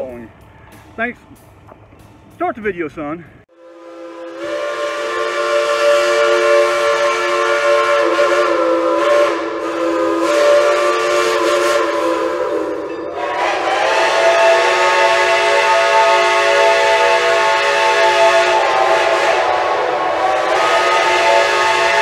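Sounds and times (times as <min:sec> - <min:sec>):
steam locomotive chime whistle: 0:03.5 - 0:22.0.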